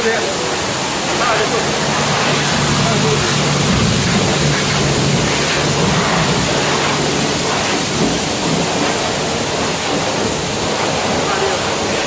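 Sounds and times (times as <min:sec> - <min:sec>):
water jets hissing: 0:00.0 - 0:12.0
low machine hum: 0:00.8 - 0:10.6.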